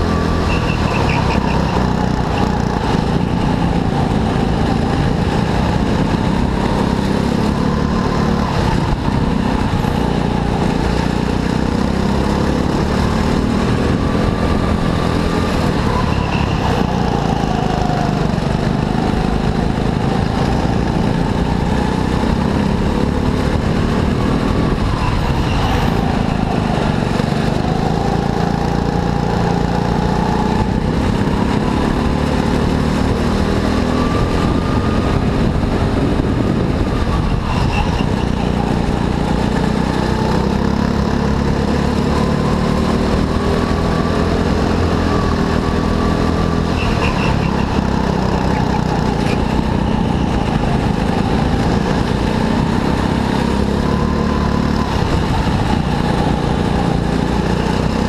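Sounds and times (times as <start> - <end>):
go-kart engine racing: 0.0 - 58.0.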